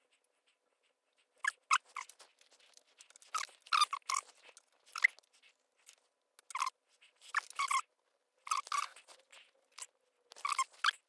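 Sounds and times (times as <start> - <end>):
crackly handling rubs and clicks: 0.0 - 11.0.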